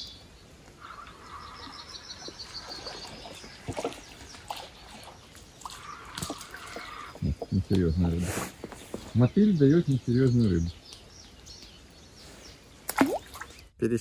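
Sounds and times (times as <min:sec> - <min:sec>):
songbirds singing: 0:00.0 - 0:14.0.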